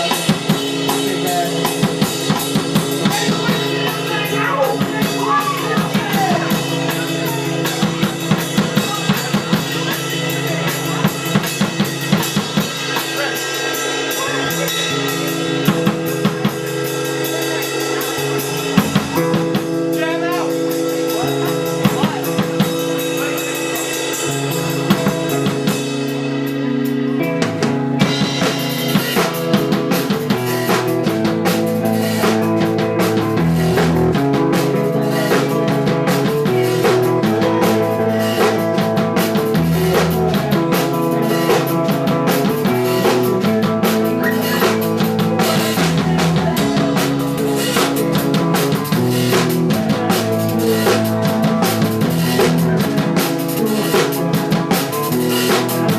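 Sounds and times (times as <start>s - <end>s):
punk rock band playing: 0.0s - 55.9s.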